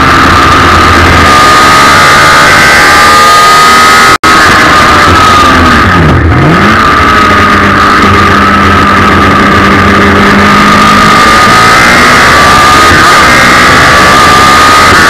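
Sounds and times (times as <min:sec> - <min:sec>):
engine at high revs: 0:00.0 - 0:15.0.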